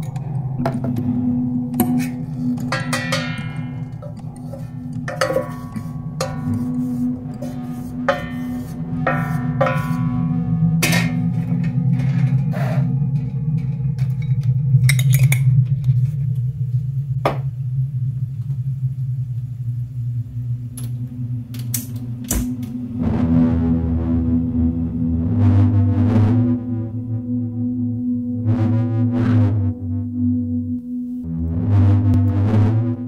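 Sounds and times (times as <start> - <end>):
low drone music: 0.0 - 33.0.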